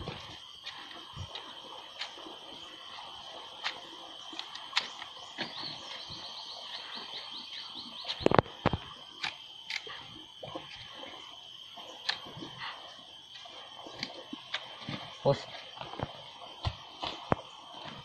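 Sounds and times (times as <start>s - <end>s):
steady high hum: 0.0s - 18.0s.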